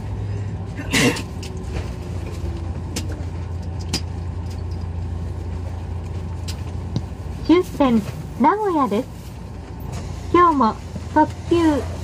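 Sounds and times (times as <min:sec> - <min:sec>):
train cabin hum and rush: 0:00.0 - 0:12.0.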